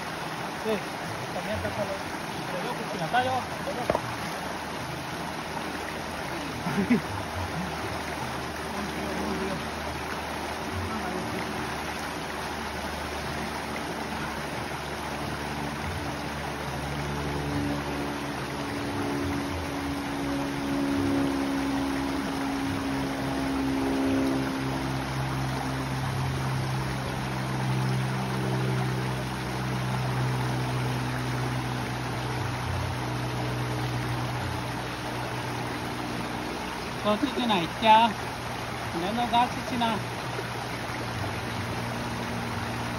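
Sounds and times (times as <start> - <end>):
small cascade rushing: 0.0 - 42.9
stream flowing over stones: 0.0 - 42.9.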